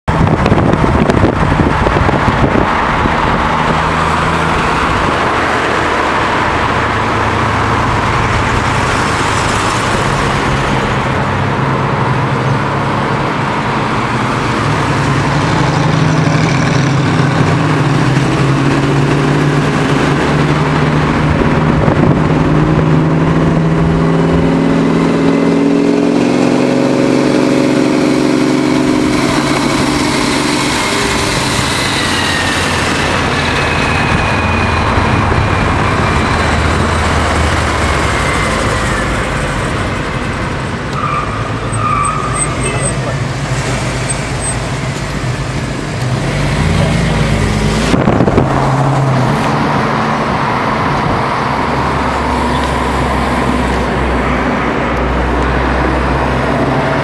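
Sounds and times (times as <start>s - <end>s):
car engines running: 0.1s - 57.0s
wind and road noise: 0.1s - 57.0s.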